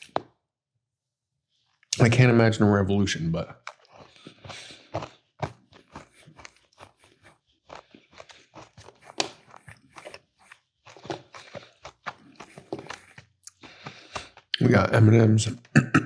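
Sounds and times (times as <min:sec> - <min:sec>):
crunching and chewing cookies: 0:01.7 - 0:15.3.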